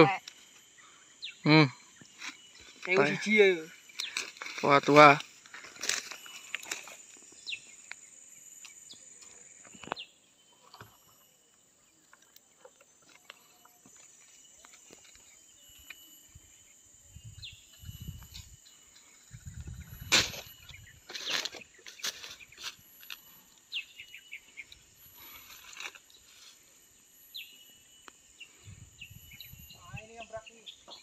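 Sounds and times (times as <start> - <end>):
bird chirps: 0.0 - 5.2, 6.1 - 26.3, 26.9 - 31.0
insect drone: 0.0 - 31.0.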